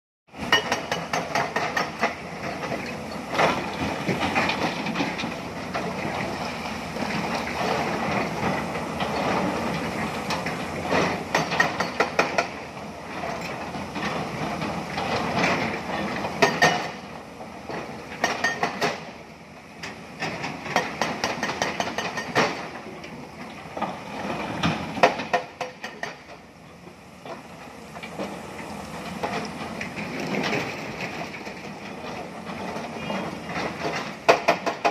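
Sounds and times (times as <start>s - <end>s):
excavator diesel engine running: 0.3s - 34.9s.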